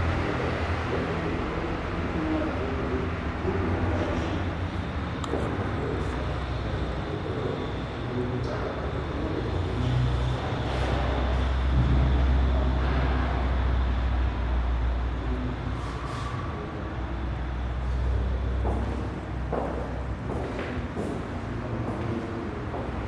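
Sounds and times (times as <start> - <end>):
heavy vehicle engine rumble: 0.0 - 23.0
traffic noise: 0.0 - 23.0.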